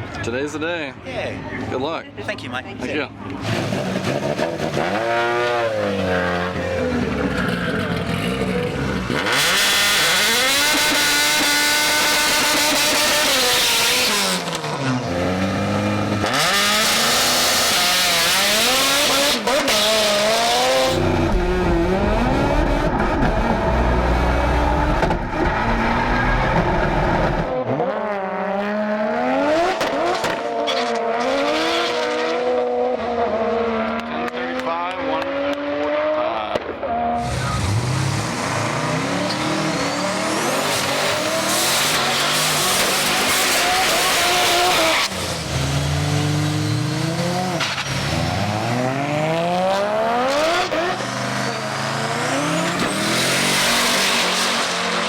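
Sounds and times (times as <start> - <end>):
race car engine revving: 3.3 - 55.0.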